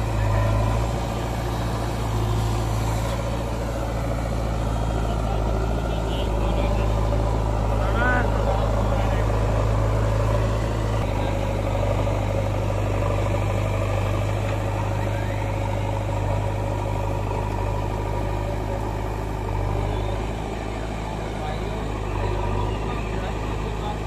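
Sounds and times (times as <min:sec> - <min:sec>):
diesel engines idling: 0:00.0 - 0:24.0.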